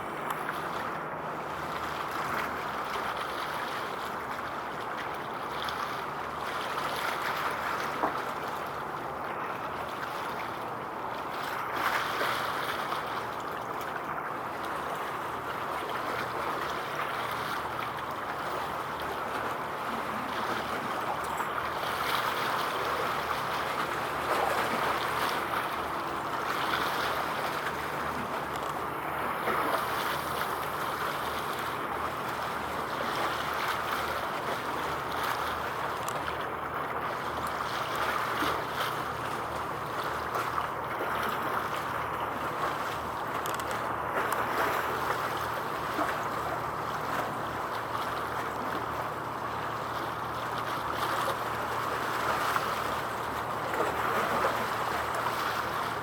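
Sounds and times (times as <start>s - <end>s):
waves at shore: 0.0s - 56.0s
wind: 0.0s - 56.0s.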